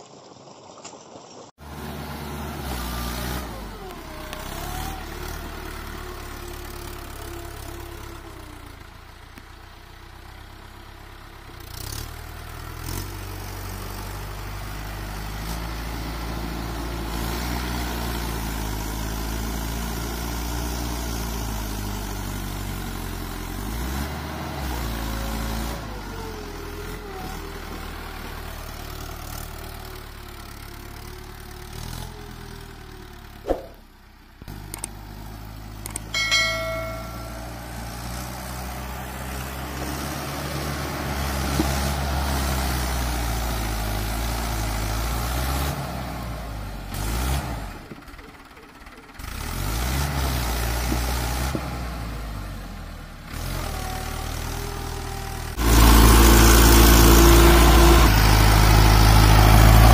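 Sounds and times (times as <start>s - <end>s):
wheels churning mud: 0.0s - 59.9s
tractor diesel engine labouring: 1.6s - 59.9s.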